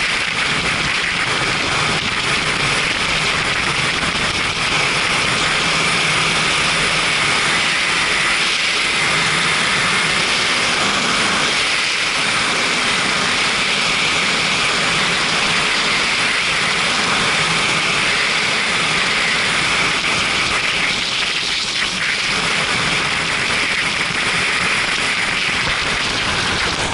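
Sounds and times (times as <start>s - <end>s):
motorcycle engine running: 0.0s - 26.9s
wind rushing over microphone: 0.0s - 26.9s.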